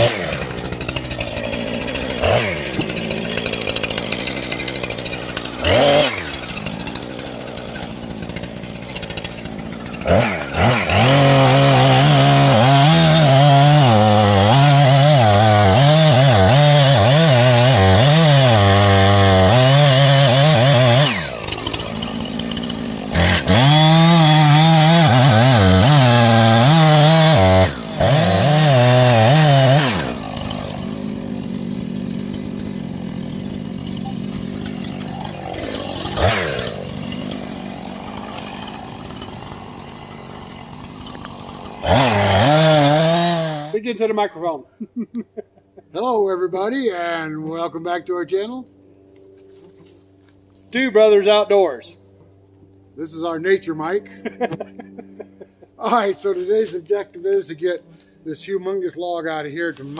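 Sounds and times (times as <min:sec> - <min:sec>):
chainsaw cutting under load: 0:00.0 - 0:44.0, 0:54.0 - 0:59.9.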